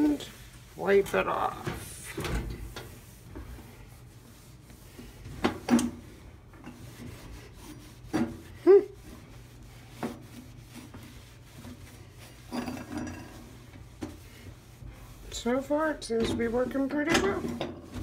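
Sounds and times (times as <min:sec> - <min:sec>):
towel rubbing a stovetop: 0:00.0 - 0:18.0.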